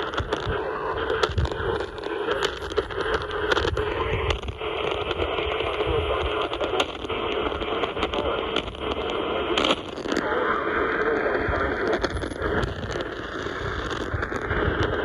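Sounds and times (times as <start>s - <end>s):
radio static hiss and crackles: 0.0s - 15.0s.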